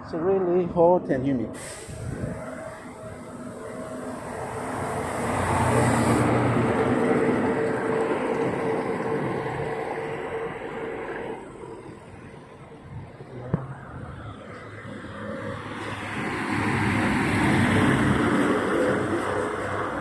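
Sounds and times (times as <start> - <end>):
vehicle passing by: 0.0 - 20.0.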